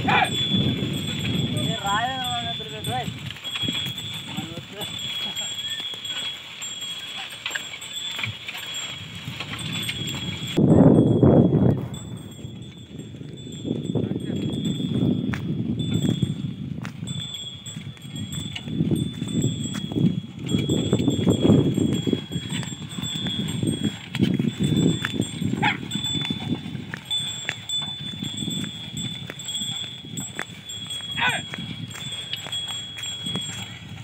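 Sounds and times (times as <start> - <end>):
wind rumble on microphone: 0.0 - 5.4, 8.2 - 34.0.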